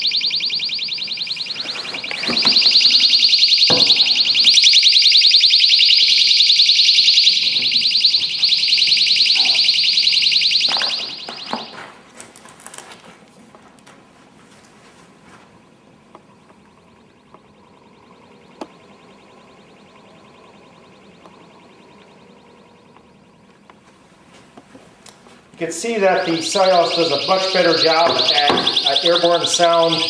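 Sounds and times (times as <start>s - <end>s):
personal alarm shrieking warble: 0.0s - 12.0s, 15.6s - 24.4s, 25.6s - 30.0s.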